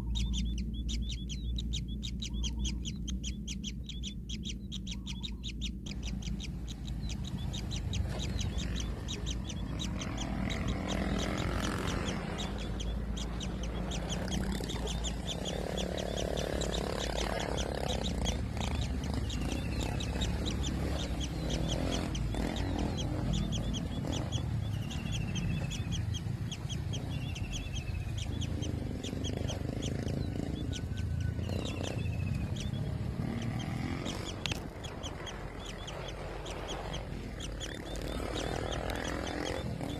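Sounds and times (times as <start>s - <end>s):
high ticking notes: 0.0s - 39.9s
nestlings rasping begging calls: 0.0s - 39.9s.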